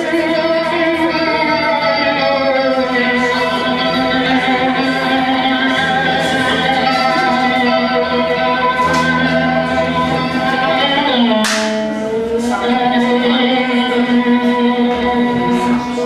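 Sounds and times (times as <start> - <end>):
live blues band instrumental: 0.0 - 16.0.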